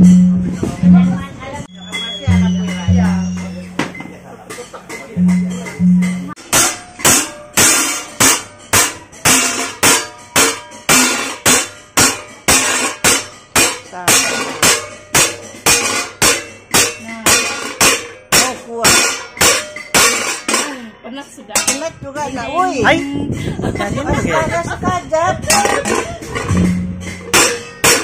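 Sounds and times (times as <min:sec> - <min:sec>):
hammer striking metal with ringing: 0:00.0 - 0:20.9, 0:21.5 - 0:23.0, 0:25.4 - 0:28.0.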